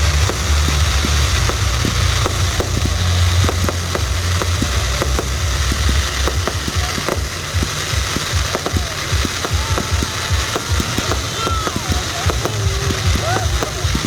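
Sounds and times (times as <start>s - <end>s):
fireworks popping and crackling: 0.0s - 14.0s
low rumble: 0.0s - 14.0s.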